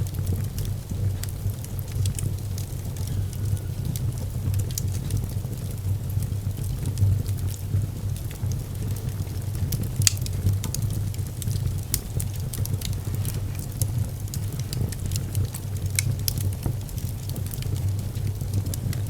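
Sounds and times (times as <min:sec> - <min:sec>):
fire popping: 0:00.0 - 0:19.0
wood fire crackling: 0:00.0 - 0:19.0.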